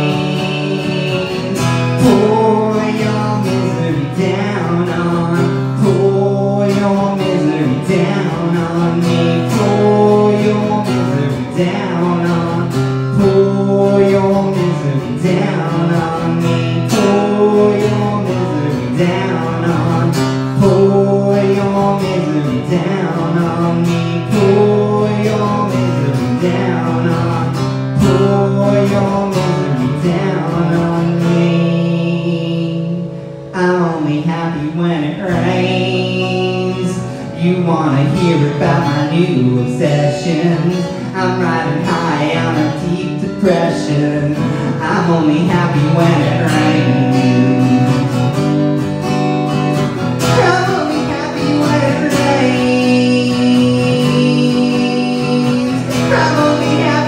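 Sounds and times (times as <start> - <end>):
guitar strumming chords: 0.0 - 57.0.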